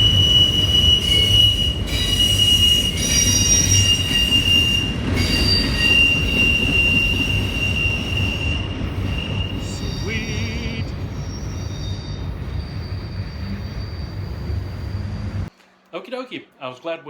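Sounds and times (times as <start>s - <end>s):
train cars rumbling: 0.0s - 15.5s
train wheels squealing on rail: 0.0s - 15.5s.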